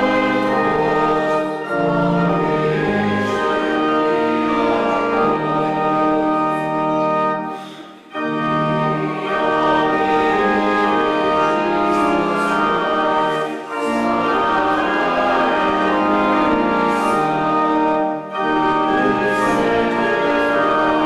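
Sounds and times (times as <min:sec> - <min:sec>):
church organ hymn chords: 0:00.0 - 0:21.0.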